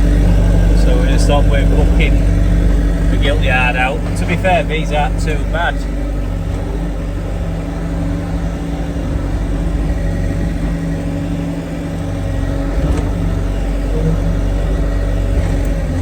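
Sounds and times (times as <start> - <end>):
diesel loader engine running: 0.0 - 16.0.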